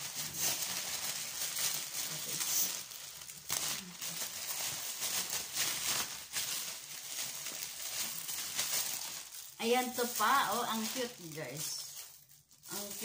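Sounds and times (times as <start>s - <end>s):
plastic pouch crinkling: 0.0s - 13.0s.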